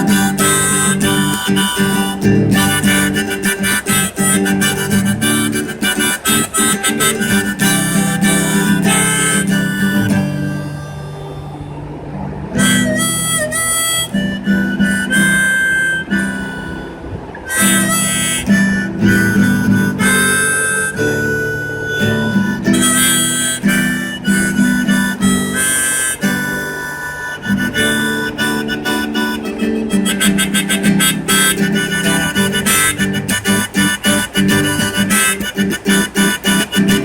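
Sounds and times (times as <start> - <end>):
harmonica playing: 0.0 - 37.0.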